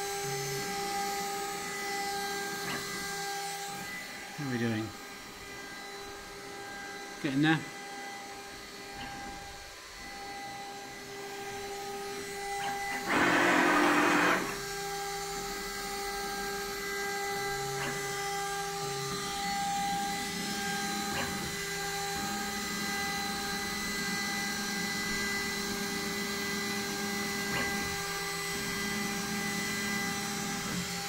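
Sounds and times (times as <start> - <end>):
spindle motor high whine: 0.0 - 31.0.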